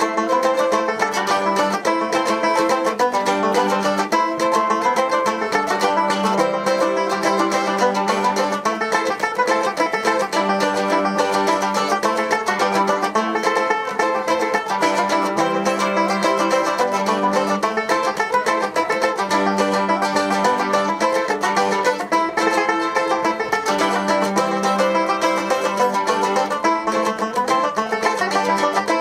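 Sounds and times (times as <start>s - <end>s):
band playing plucked string instruments: 0.0s - 29.0s.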